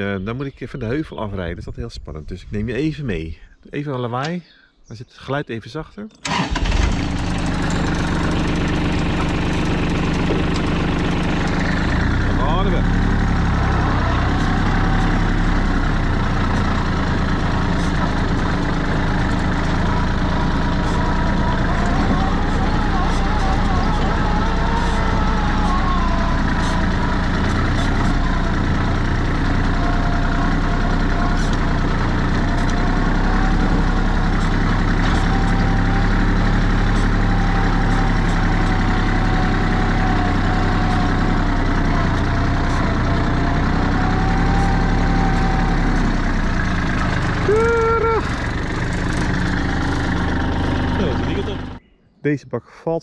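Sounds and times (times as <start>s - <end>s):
vehicle engine running: 6.2s - 51.8s.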